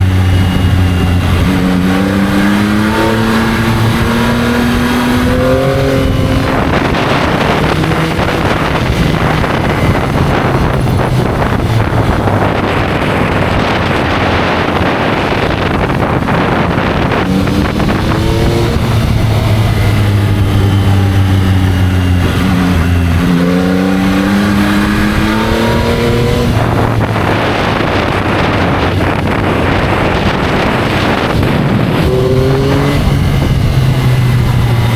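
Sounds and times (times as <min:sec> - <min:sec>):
motorcycle engine accelerating: 0:00.0 - 0:34.9
wind rush: 0:00.0 - 0:34.9.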